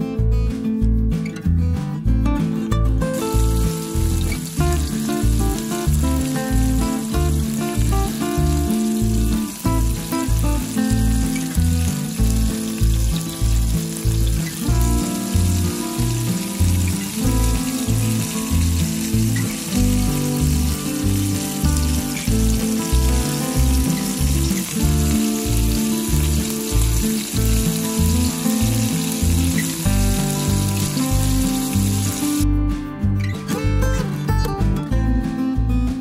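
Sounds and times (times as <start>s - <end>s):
background music with steady beat: 0.0s - 36.0s
shrimp sizzling in hot oil: 3.2s - 32.4s.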